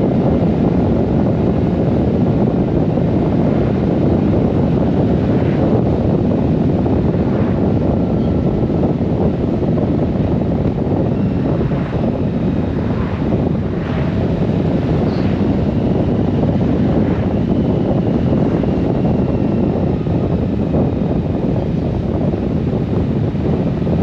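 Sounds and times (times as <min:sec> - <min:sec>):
wind rush on microphone: 0:00.0 - 0:24.0.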